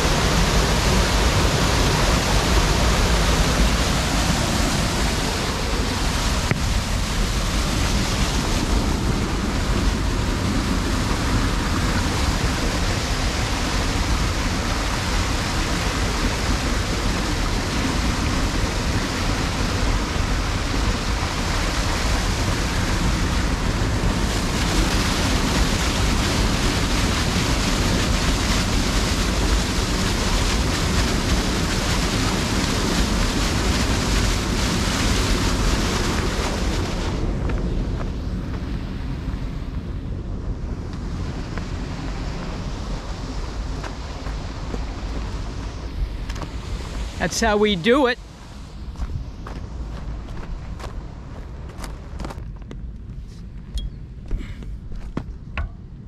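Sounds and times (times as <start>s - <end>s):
rushing noise with low rumble: 0.0s - 56.0s.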